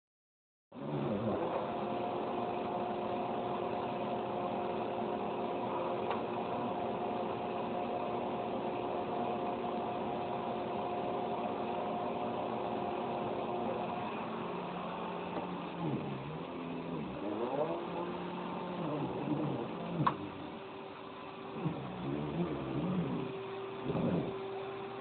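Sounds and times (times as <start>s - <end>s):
vacuum cleaner running: 0.8s - 25.0s.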